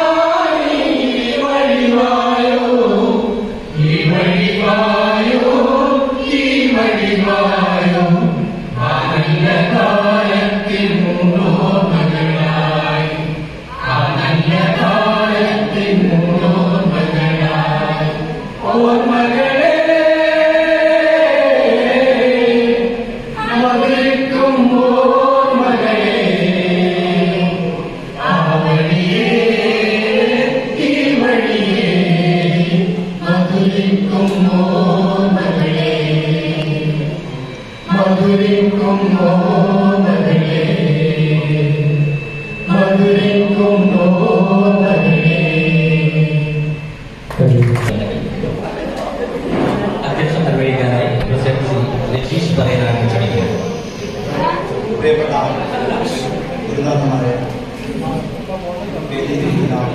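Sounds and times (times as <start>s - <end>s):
voices singing slow melody: 0.0s - 59.9s.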